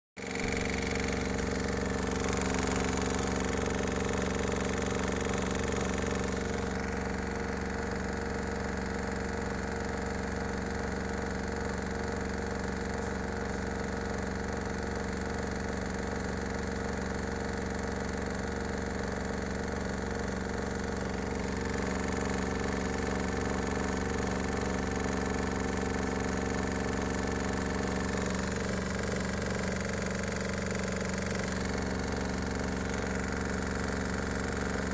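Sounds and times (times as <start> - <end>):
washing machine spin motor hum: 0.2 - 34.9.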